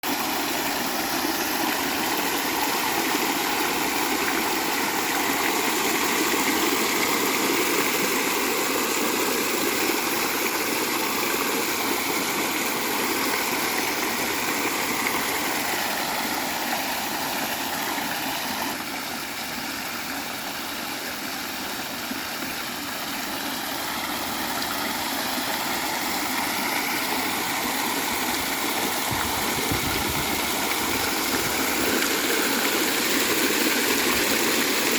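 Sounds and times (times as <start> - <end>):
fountain water splashing: 0.0 - 34.9.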